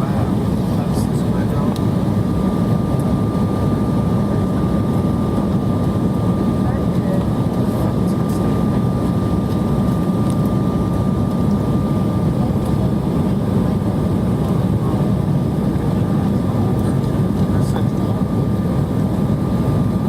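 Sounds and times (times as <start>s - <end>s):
jet engine and airflow roar: 0.0s - 20.0s.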